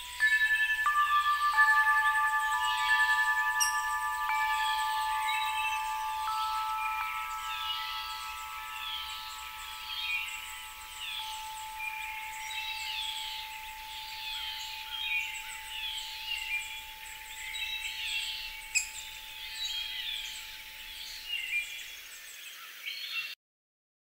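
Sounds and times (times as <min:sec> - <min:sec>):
songbird warbling: 0:00.0 - 0:22.1
faint steady tone: 0:00.0 - 0:22.4.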